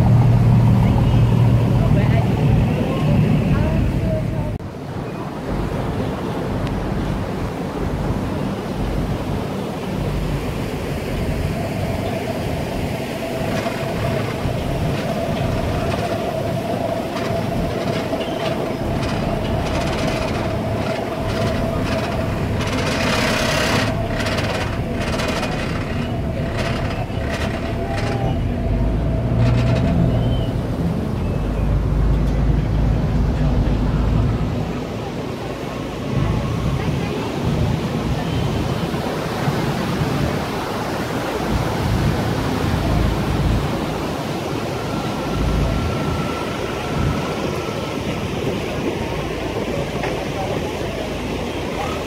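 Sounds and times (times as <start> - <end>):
boat engine rumble: 0.0 - 52.0
water noise: 0.0 - 52.0
wind: 0.0 - 52.0.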